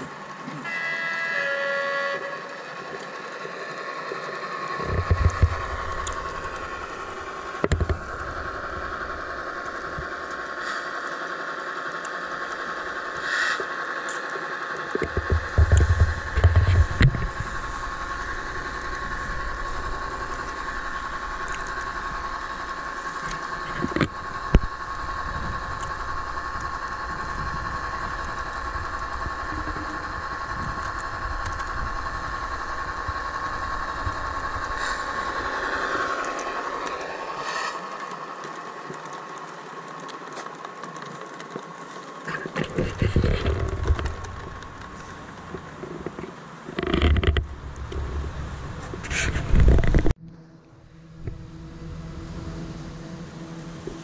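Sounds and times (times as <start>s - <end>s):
constant whine: 0.0s - 54.0s
diesel engine sound from small speaker: 0.0s - 54.0s.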